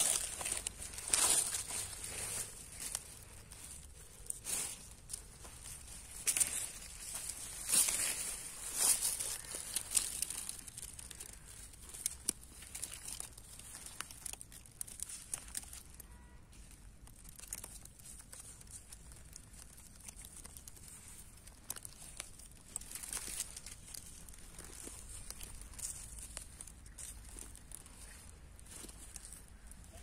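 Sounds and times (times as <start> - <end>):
leaves and stems tearing: 0.0 - 30.0.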